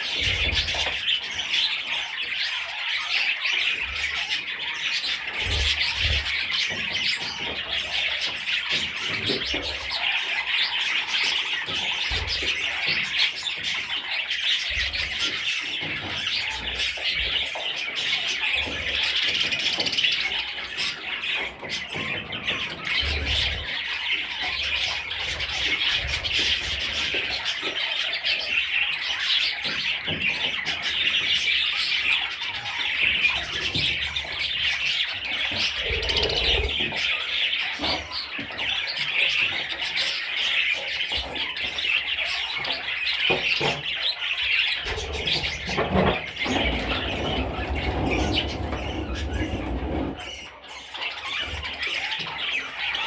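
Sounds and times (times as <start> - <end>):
budgerigars chattering and chirping: 0.0 - 53.0.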